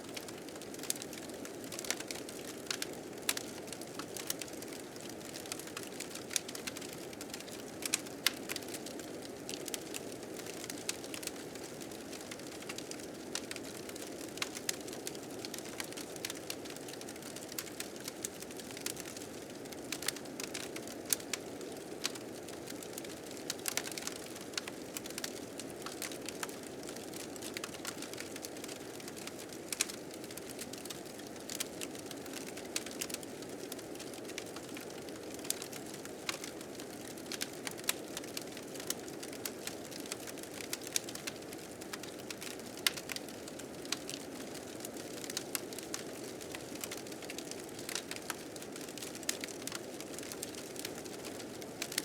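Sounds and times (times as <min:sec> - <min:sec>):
wood fire crackling: 0:00.1 - 0:52.0.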